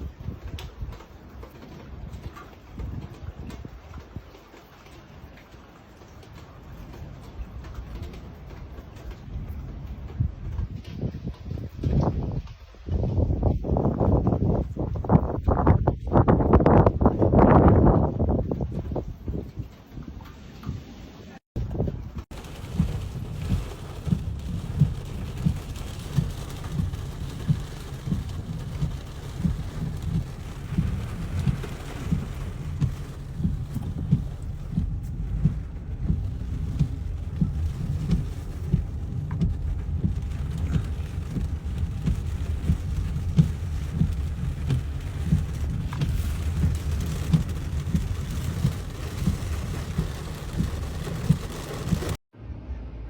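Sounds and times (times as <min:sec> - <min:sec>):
storm wind buffeting microphone: 0:06.6 - 0:20.9, 0:21.6 - 0:52.2.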